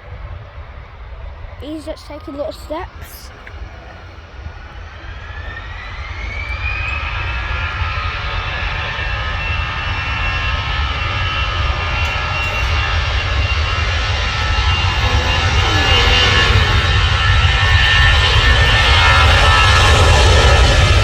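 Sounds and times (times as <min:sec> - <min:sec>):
jet engines whining: 0:00.1 - 0:21.0.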